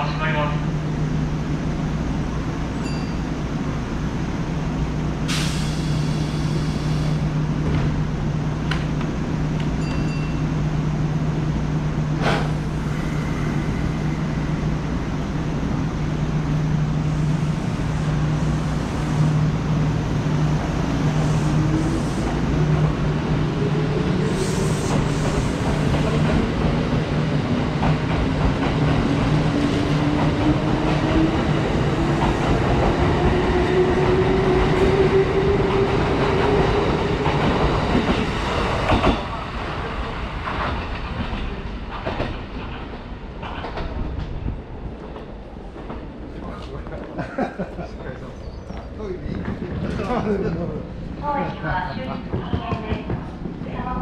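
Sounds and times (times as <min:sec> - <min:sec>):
electric train low hum: 0:00.0 - 0:54.0.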